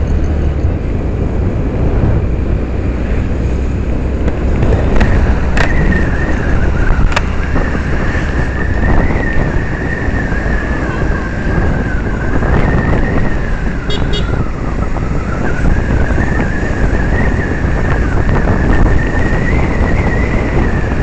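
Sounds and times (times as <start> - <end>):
low rumble of road and traffic: 0.0 - 21.0
wind rushing over microphone: 0.0 - 21.0.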